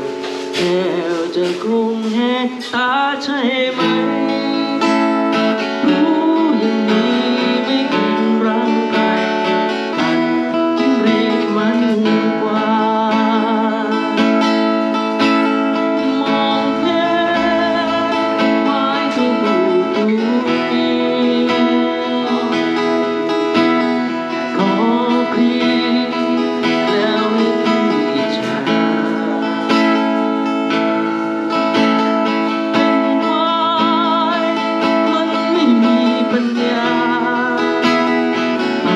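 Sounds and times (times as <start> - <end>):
acoustic guitar: 0.0 - 38.9
person singing: 0.0 - 38.9.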